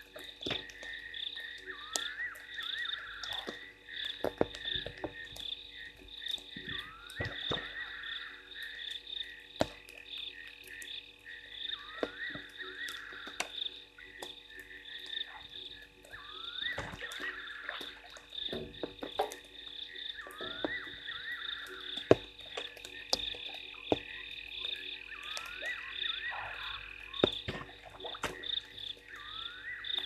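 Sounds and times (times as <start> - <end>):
frogs trilling: 0.0 - 30.0
rising frog calls: 0.0 - 30.0.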